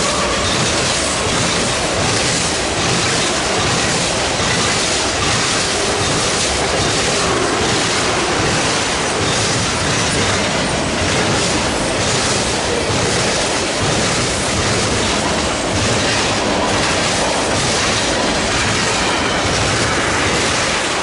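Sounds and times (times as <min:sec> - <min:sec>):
freight train cars rolling past: 0:00.0 - 0:21.0.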